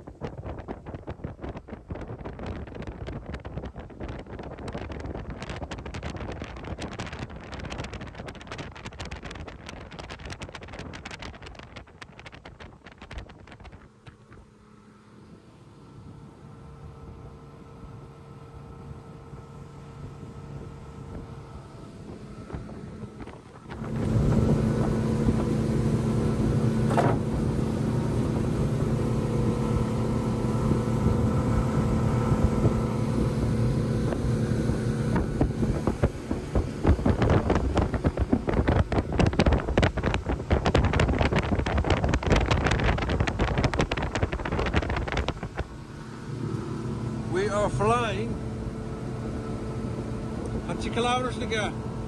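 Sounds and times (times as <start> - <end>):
boat engine throttling up: 0.0 - 52.0.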